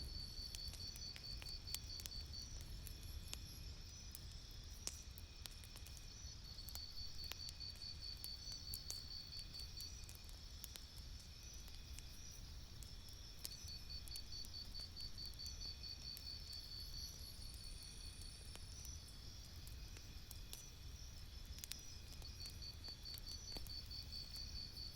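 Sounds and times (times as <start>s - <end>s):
campfire crackling: 0.0s - 24.9s.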